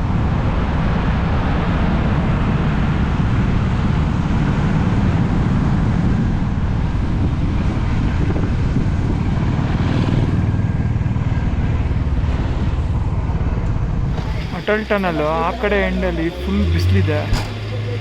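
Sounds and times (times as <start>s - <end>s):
wind noise on microphone: 0.0s - 15.2s
motorcycle engine rumble: 0.0s - 18.0s.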